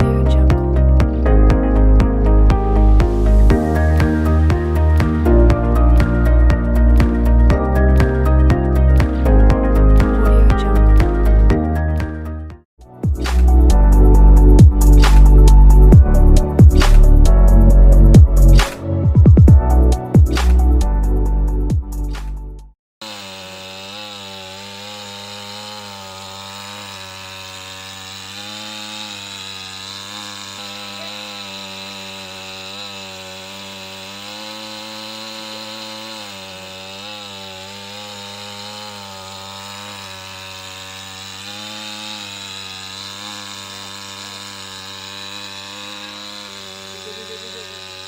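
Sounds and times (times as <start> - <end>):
chainsaw engine cutting wood: 0.0 - 21.2, 23.0 - 48.0.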